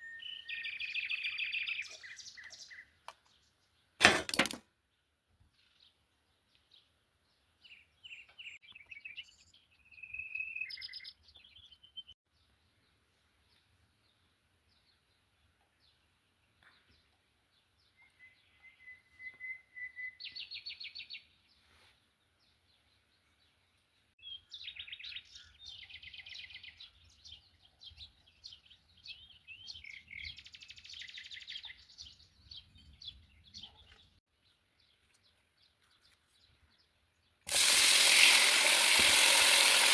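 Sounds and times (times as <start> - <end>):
songbirds chirping and trilling: 0.0 - 4.0, 4.9 - 37.4.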